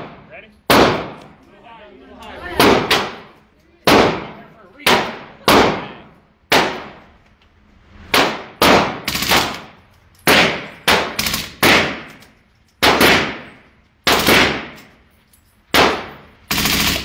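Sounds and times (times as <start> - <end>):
echoing gunshots indoors: 0.0 - 1.3, 2.6 - 7.2, 7.9 - 15.1, 15.7 - 17.0.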